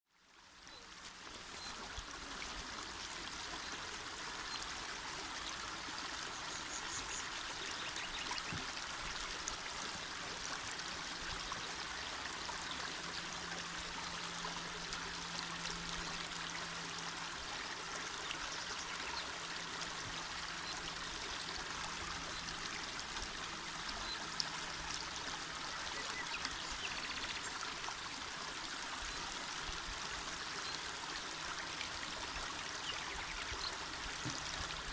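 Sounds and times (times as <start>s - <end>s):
river water rushing and babbling: 0.3s - 34.9s.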